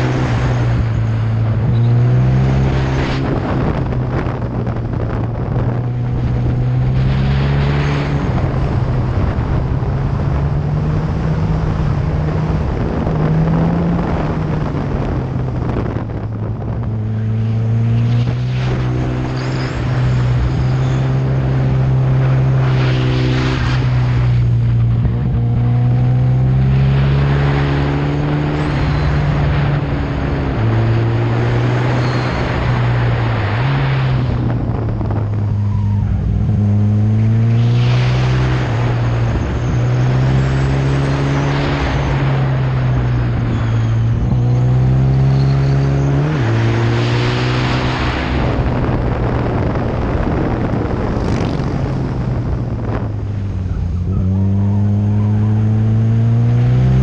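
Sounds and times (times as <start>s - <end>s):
motorcycle engine revving: 0.0s - 57.0s
wind rushing on microphone: 0.0s - 57.0s.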